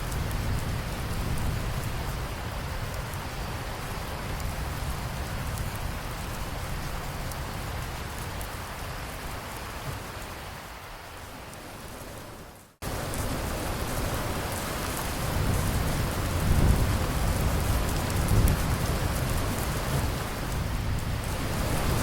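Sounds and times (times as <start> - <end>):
thunder rumbling: 0.0 - 10.7, 11.6 - 22.0
heavy rain: 0.0 - 22.0.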